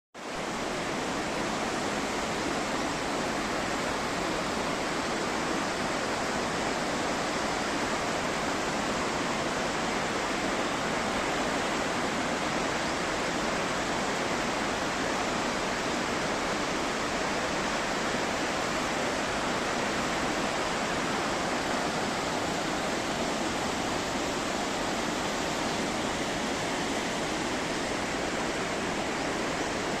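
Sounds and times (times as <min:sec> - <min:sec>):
waterfall rushing: 0:00.4 - 0:30.0.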